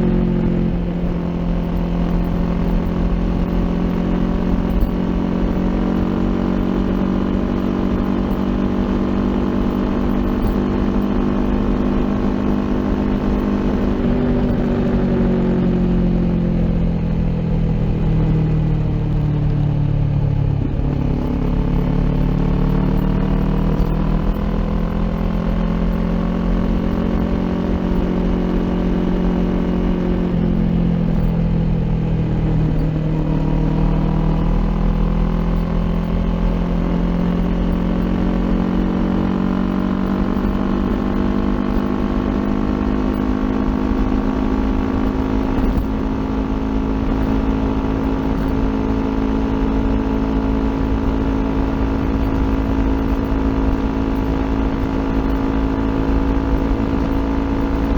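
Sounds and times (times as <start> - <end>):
motorcycle engine while riding: 0.0 - 57.9.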